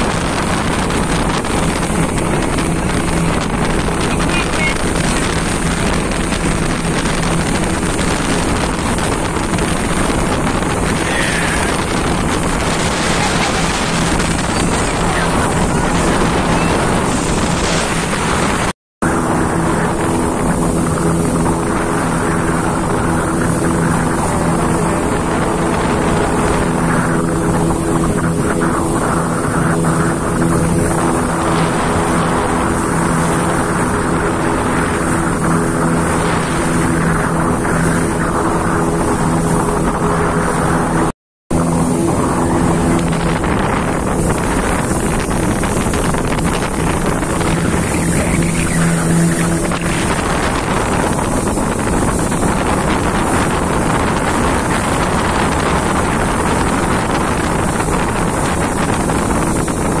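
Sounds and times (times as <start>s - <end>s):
rushing water: 0.0s - 60.0s
speedboat engine running: 0.0s - 60.0s
wind buffeting microphone: 0.0s - 60.0s.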